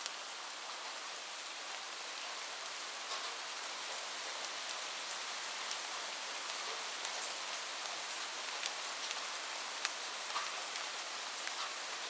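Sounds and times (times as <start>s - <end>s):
steady rain hissing: 0.0s - 12.0s.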